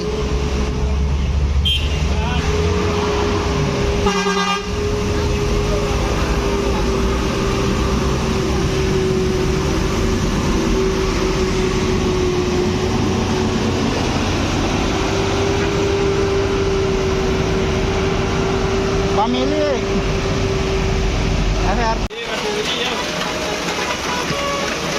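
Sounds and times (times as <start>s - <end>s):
heavy vehicle engine running: 0.0s - 24.9s.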